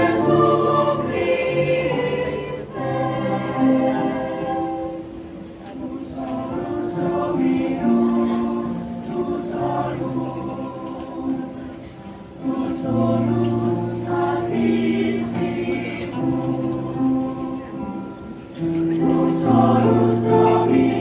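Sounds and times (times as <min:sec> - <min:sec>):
children's choir singing: 0:00.0 - 0:21.0.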